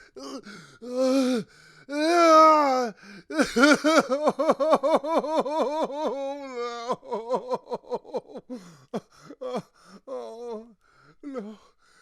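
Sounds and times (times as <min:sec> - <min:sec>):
man sobbing: 0:00.0 - 0:11.7.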